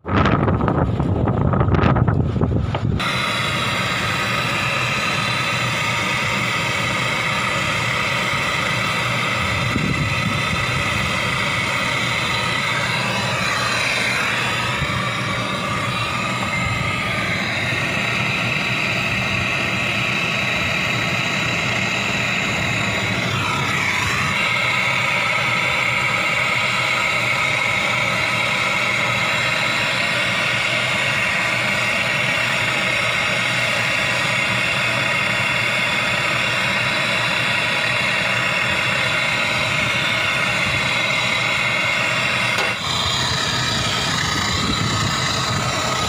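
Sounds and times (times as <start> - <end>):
loud machine drone: 0.0 - 46.0.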